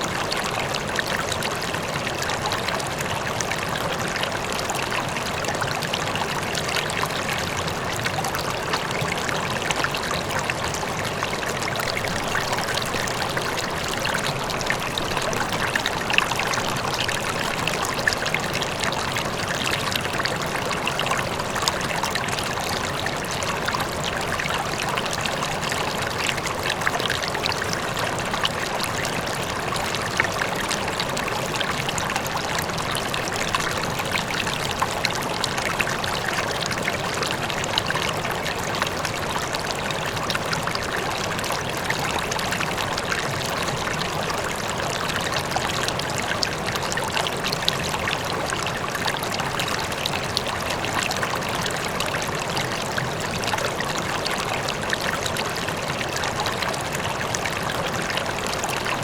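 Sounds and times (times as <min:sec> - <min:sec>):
river water rushing and splashing: 0:00.0 - 0:59.0.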